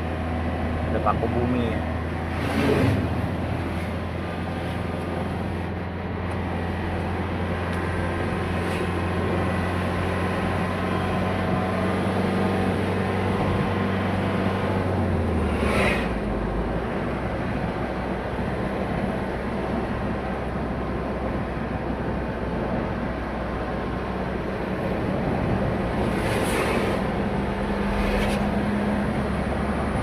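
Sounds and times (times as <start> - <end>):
road noise: 0.0 - 30.0
vehicle engine drone: 0.0 - 30.0.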